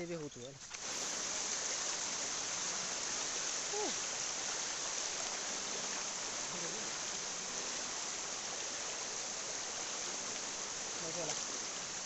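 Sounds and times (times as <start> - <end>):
rushing stream water: 0.0 - 12.0.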